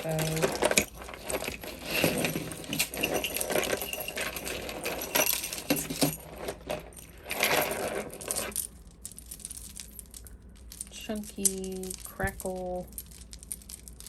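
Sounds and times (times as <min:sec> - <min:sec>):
jewelry beads and chains clinking: 0:00.0 - 0:14.0.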